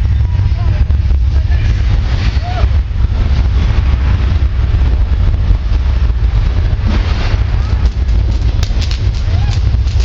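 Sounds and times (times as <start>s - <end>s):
heavy low rumble: 0.0s - 10.0s
loud rushing noise: 0.0s - 10.0s.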